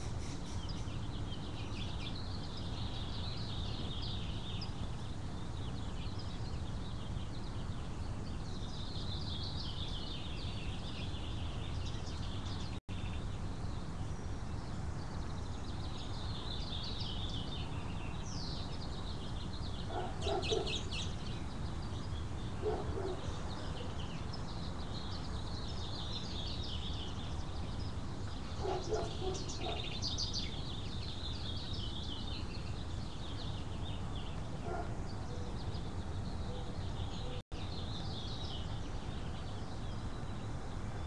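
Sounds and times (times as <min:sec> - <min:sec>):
birds singing and chirping: 0:00.0 - 0:41.0.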